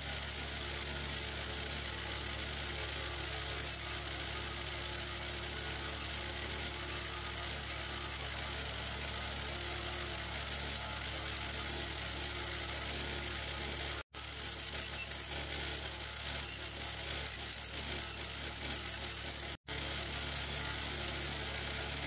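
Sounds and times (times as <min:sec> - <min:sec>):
bench grinder motor hum: 0:00.0 - 0:22.0
wire wheel brushing hiss: 0:00.0 - 0:22.0.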